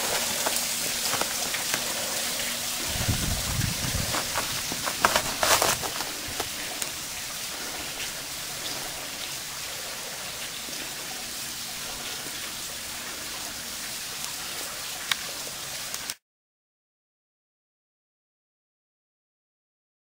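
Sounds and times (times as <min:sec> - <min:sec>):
waterfall splashing hiss: 0:00.0 - 0:16.2.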